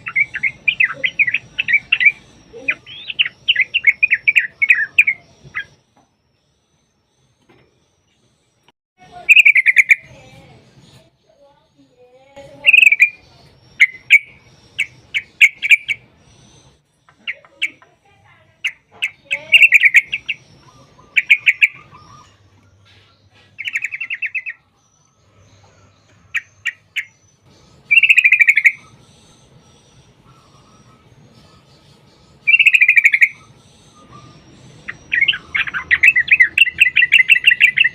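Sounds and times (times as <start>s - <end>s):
bulbul chirps and trills: 0.0s - 37.9s.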